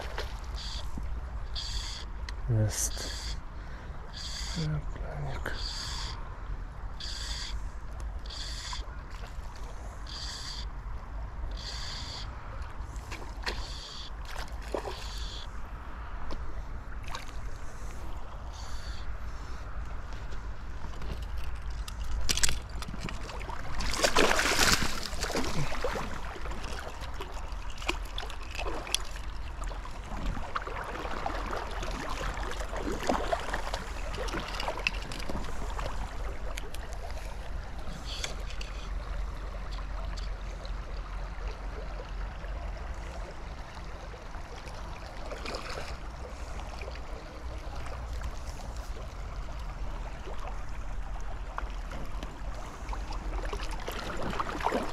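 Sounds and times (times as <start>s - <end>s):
shallow river water running: 0.0s - 54.9s.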